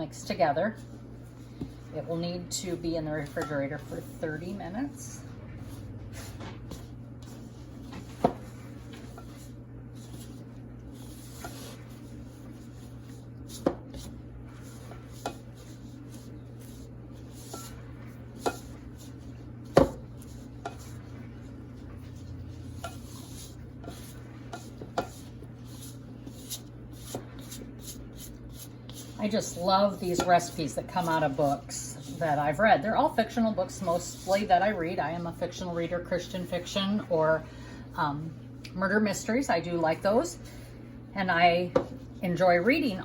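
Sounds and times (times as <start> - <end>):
dough being stirred in a bowl: 0.0 - 43.0.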